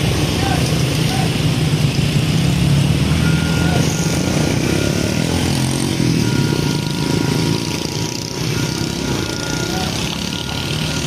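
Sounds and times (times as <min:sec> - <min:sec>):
diesel truck engine running: 0:00.0 - 0:11.0
road and traffic noise: 0:00.0 - 0:11.0.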